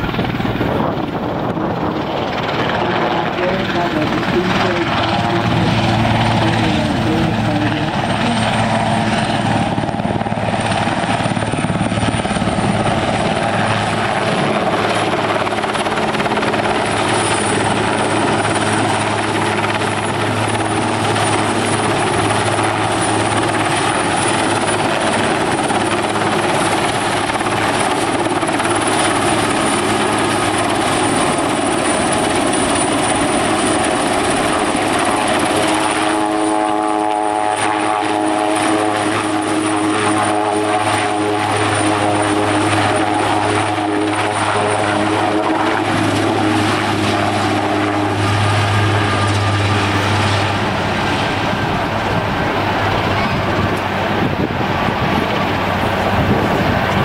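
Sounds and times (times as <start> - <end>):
helicopter rotor and engine noise: 0.0 - 57.0
high turbine whine: 0.0 - 57.0.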